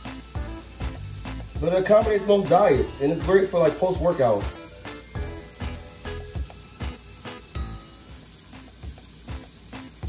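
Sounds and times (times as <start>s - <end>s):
background music with pitched beat: 0.0s - 10.0s.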